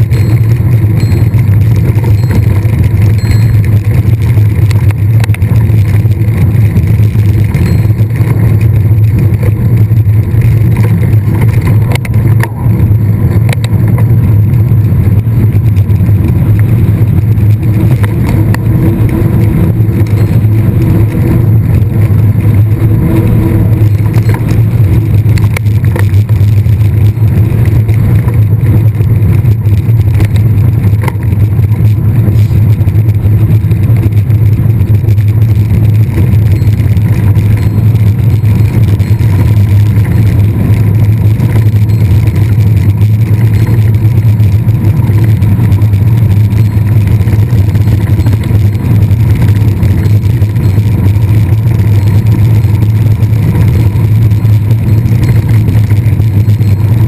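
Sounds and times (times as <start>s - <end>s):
bike clicks over rough ground: 0.0s - 57.0s
wind and tyres rushing: 0.0s - 57.0s.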